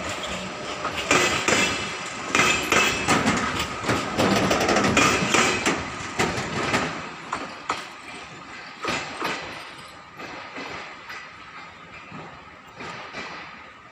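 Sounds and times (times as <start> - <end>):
train wheels clattering over rail joints: 0.0 - 13.9.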